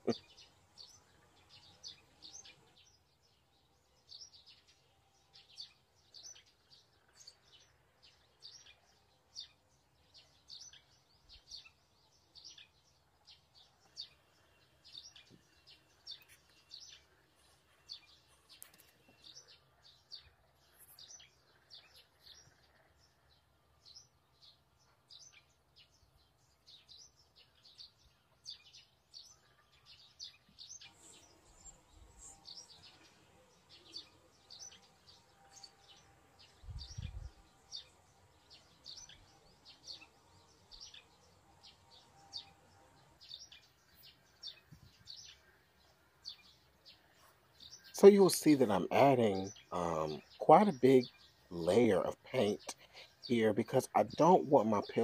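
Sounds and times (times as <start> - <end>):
birds chirping faintly: 0.0 - 55.0.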